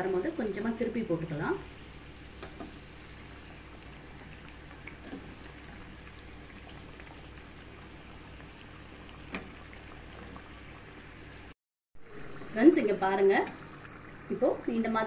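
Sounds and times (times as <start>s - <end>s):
hot oil sizzling and bubbling: 0.0s - 15.0s.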